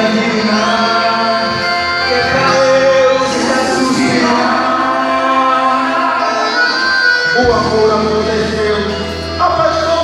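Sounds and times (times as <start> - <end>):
folk dance music with singing: 0.0 - 10.0.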